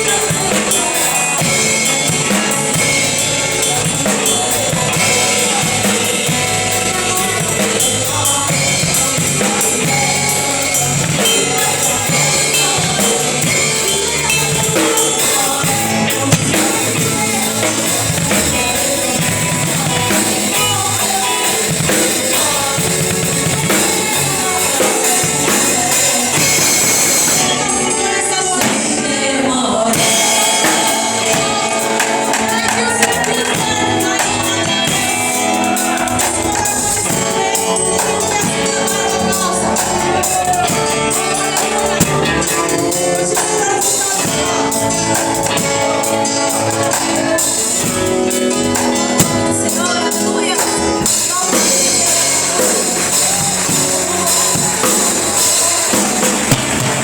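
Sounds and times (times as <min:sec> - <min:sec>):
gospel band with drum kit: 0:00.0 - 0:57.0
people singing: 0:00.0 - 0:57.0.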